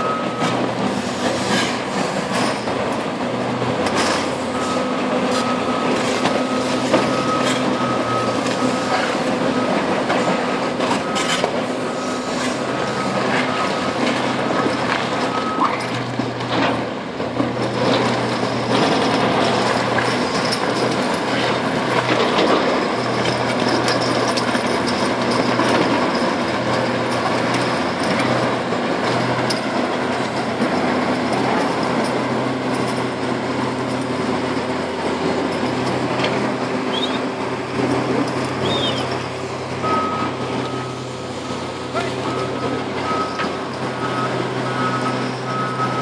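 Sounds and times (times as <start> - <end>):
heavy diesel machinery drone: 0.0 - 46.0.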